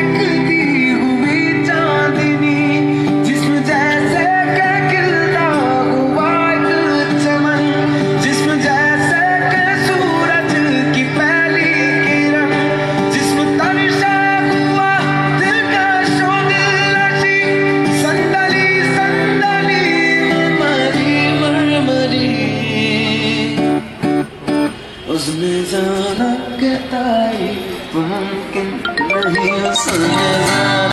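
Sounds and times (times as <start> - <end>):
man singing: 0.0 - 23.8, 25.1 - 30.9
acoustic guitar: 0.0 - 30.9.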